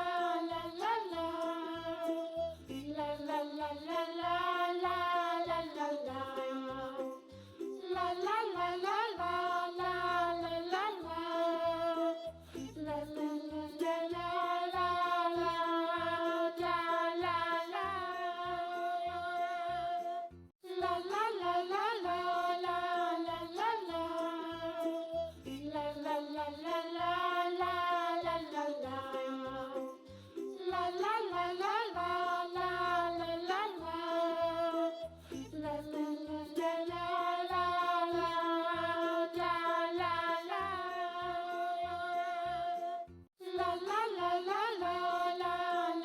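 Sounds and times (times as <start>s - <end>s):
person singing children's song: 0.0s - 46.0s.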